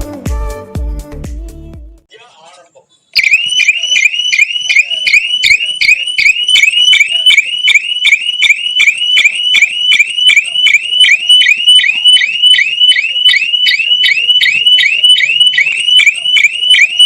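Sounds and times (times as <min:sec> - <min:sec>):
shrill rising alarm chirps: 0:03.2 - 0:17.0.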